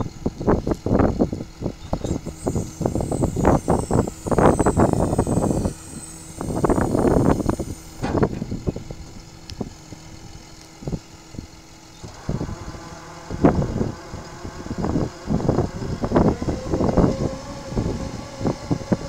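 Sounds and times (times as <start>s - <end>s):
tractor engine running: 0.0s - 19.0s
wind buffeting microphone: 0.0s - 19.0s.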